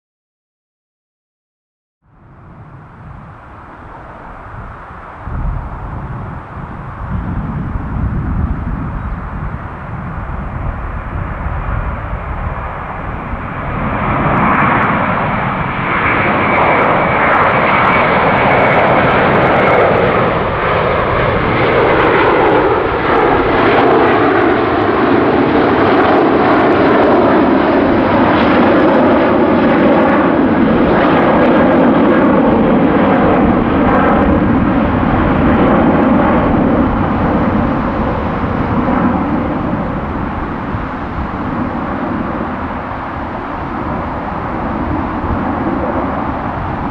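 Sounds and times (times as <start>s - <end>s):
jet airliner roar: 2.1s - 46.9s.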